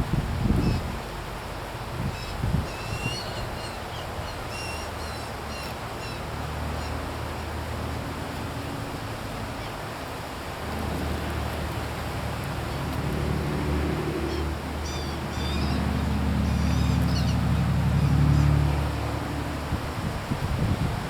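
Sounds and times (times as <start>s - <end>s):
distant engine hum: 0.0s - 21.0s.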